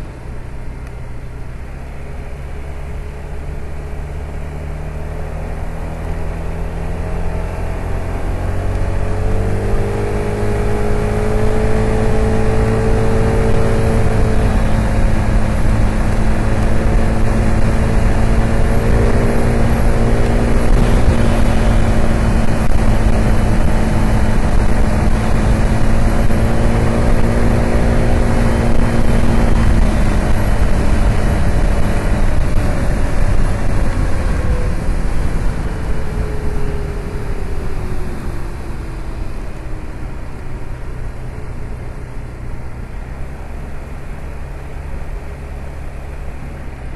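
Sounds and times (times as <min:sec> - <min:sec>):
scooter engine accelerating: 0:00.0 - 0:46.9
wind and road noise: 0:00.0 - 0:46.9.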